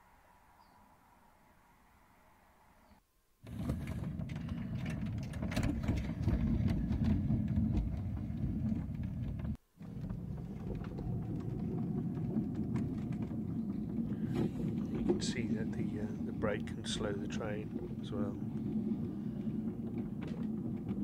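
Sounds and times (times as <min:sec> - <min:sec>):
clicks and rattles: 0:03.5 - 0:21.0
train wheels rumbling on track: 0:04.1 - 0:21.0.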